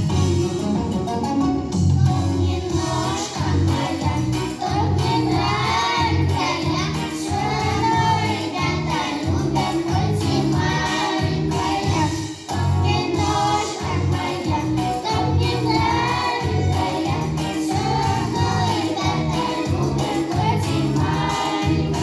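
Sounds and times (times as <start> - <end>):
backing track with bass beat: 0.0 - 22.0
girls singing into microphones: 2.4 - 22.0.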